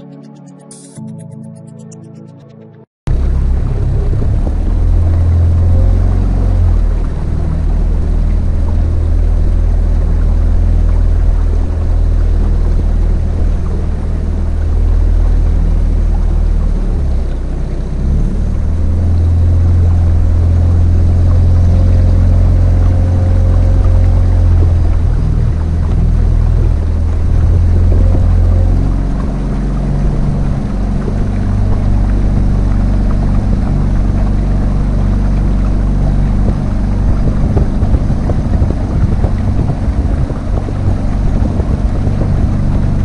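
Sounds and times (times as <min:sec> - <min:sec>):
motorboat engine rumbling: 0:03.1 - 0:43.0
water rushing over bow: 0:03.1 - 0:43.0.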